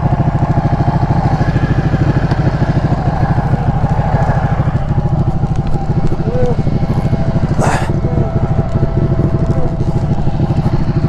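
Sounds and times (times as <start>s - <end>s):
motorcycle engine pulsing: 0.0s - 11.0s.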